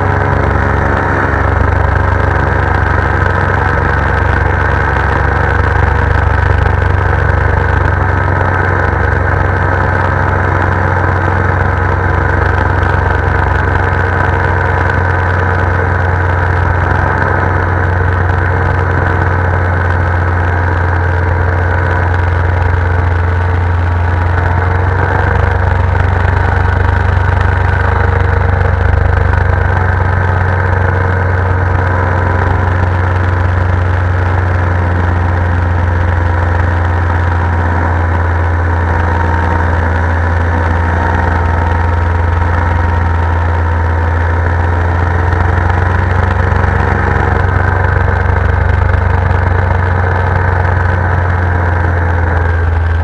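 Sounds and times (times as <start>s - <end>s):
paramotor engine drone: 0.0s - 53.0s.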